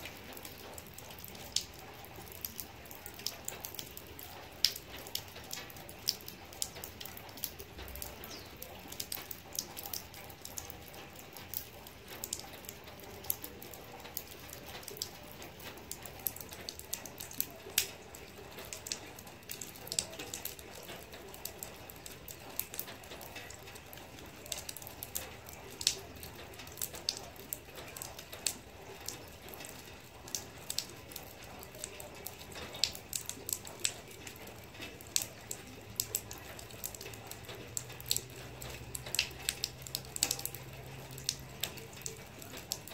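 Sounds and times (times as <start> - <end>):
soft rain patter: 0.0 - 42.9.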